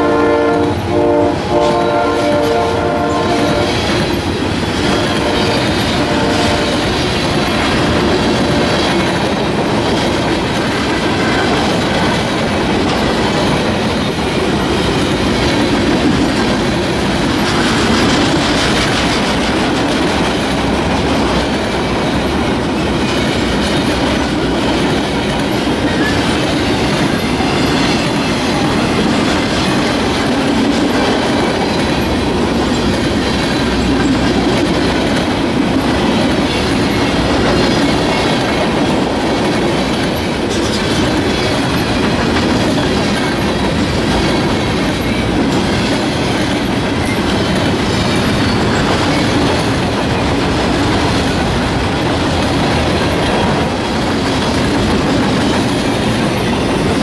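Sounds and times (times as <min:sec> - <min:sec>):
clickety-clack over rail joints: 0:00.0 - 0:57.0
steel wheels rumbling on rail: 0:00.0 - 0:57.0.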